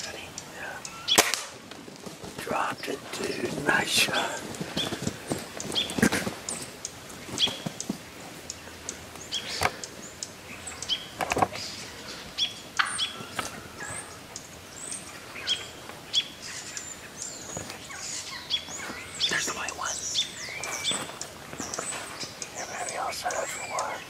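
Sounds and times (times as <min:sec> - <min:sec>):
turkeys chirping: 0:00.0 - 0:24.0.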